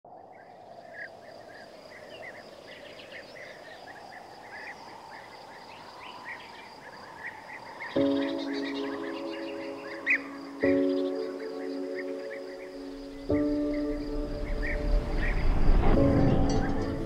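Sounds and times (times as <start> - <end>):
insects droning: 0.1 - 17.0
birds chirping: 0.3 - 17.0.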